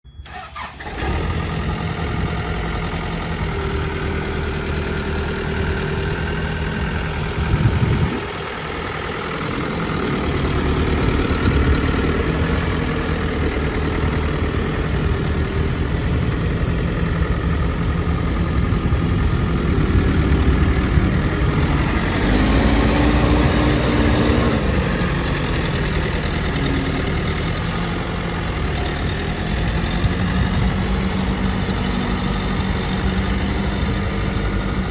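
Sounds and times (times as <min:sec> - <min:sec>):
backhoe diesel engine idling: 0:00.0 - 0:34.9.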